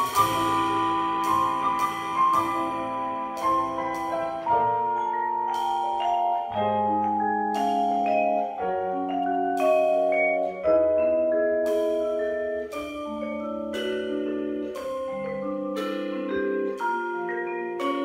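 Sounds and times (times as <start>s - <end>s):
double bass: 0.0s - 18.0s
drum kit: 0.0s - 18.0s
vibraphone chords: 0.0s - 18.0s.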